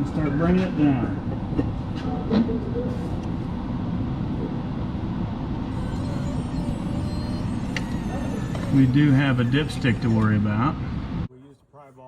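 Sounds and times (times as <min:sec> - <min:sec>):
low rumbling background noise: 0:00.0 - 0:11.8.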